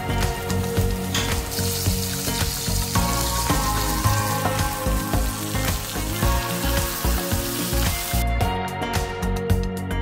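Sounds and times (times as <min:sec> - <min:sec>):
fish sizzling in a frying pan: 0:00.0 - 0:08.4
background music: 0:00.0 - 0:10.0.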